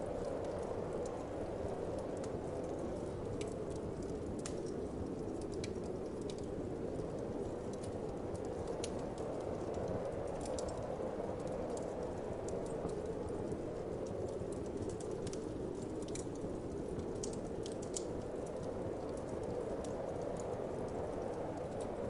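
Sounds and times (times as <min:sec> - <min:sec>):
wood fire crackling: 0:00.0 - 0:22.0
fire pops and snaps: 0:00.1 - 0:22.0.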